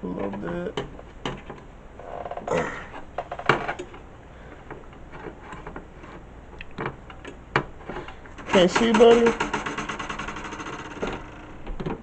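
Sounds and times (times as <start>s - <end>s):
computer parts clicking and knocking: 0.1s - 1.7s, 3.2s - 4.0s, 4.7s - 12.0s.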